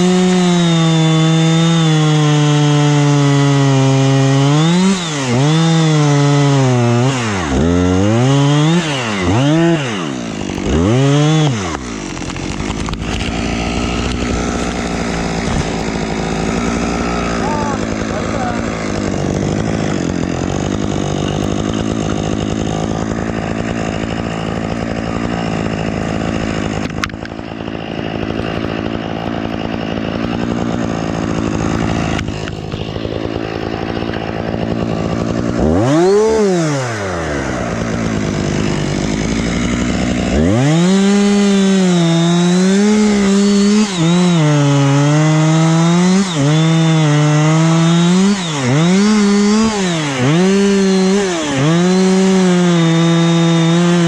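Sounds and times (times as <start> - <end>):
chainsaw cutting and bogging: 0.0 - 54.0
chainsaw idling and revving: 0.0 - 54.0.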